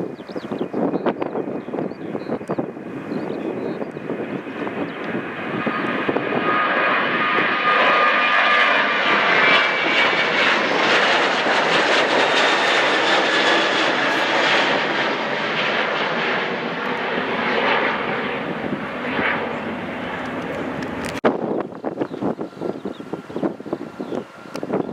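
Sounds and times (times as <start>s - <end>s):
jet airliner engines passing: 0.0s - 24.9s.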